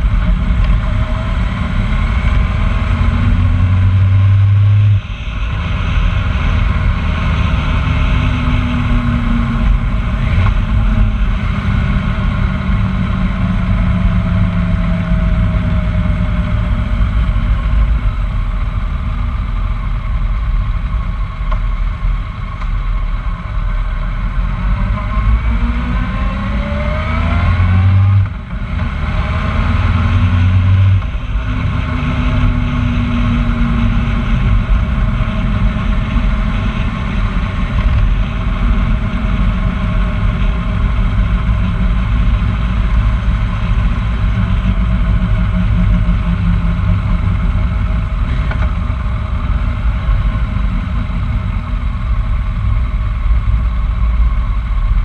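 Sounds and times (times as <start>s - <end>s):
vehicle engine running: 0.0s - 55.0s
wind and road noise: 0.0s - 55.0s.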